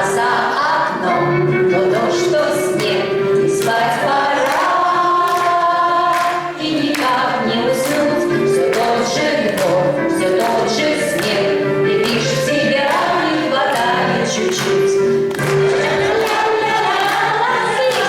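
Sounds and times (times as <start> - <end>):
women's choir singing: 0.0 - 18.0
musical accompaniment with beat: 0.1 - 18.0.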